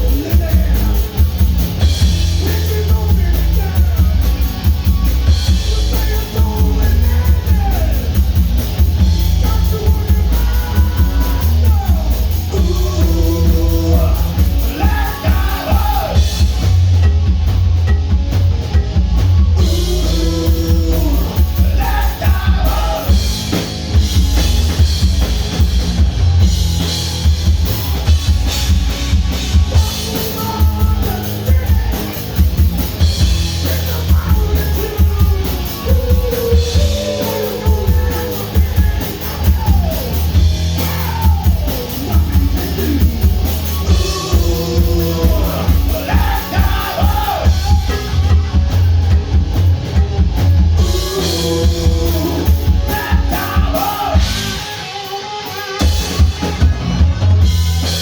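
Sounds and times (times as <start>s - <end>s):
bass: 0.0s - 58.0s
drum kit: 0.0s - 58.0s
electric guitars: 0.0s - 58.0s.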